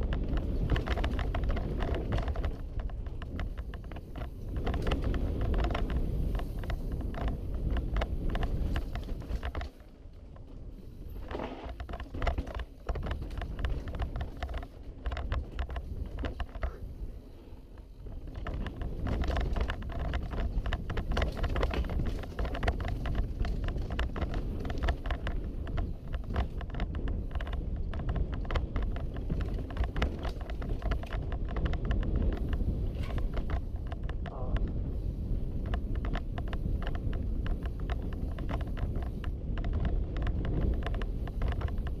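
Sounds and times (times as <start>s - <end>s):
bike chain and frame rattling: 0.0s - 42.0s
bike tyre rumble: 0.0s - 42.0s
wind on microphone: 0.0s - 42.0s.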